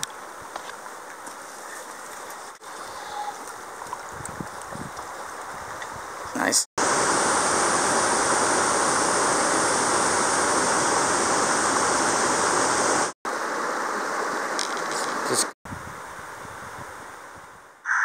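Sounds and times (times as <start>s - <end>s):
creek water rushing: 0.0s - 15.5s.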